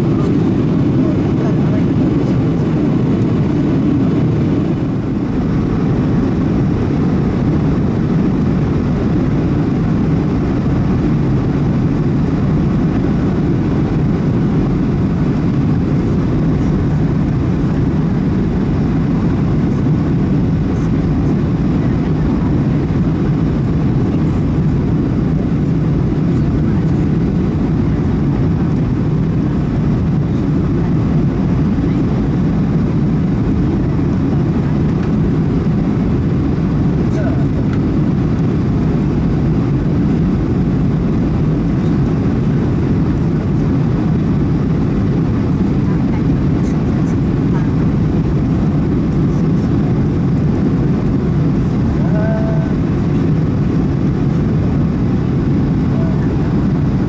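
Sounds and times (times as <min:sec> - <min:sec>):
airplane cabin engine rumble: 0:00.0 - 0:57.0
rushing air: 0:00.0 - 0:57.0.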